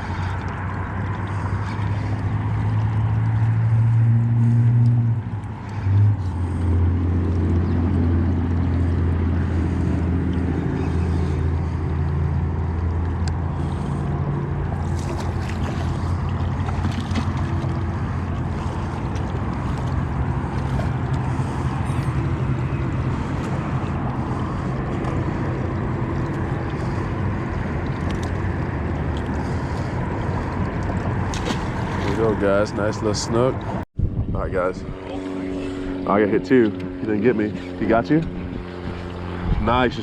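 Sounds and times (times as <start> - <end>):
outboard motor humming: 0.0 - 40.0.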